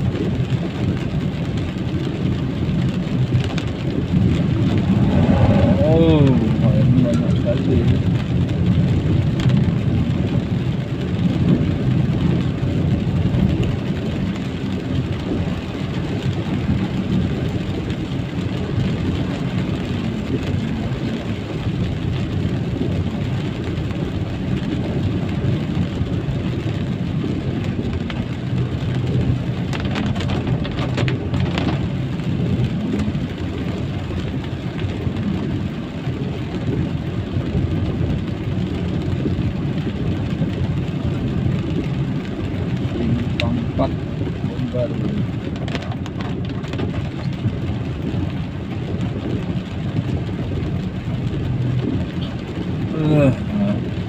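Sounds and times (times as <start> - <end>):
rain and tyre spray hiss: 0.0 - 54.0
vehicle rumbling on wet road: 0.0 - 54.0.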